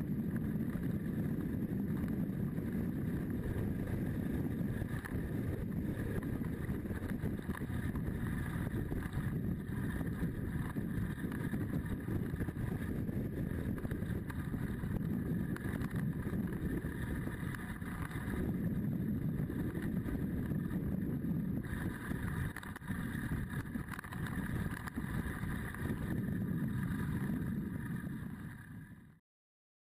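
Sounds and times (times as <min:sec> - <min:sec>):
motorcycle engine running: 0:00.0 - 0:29.1
wind rushing over microphone: 0:00.0 - 0:29.2.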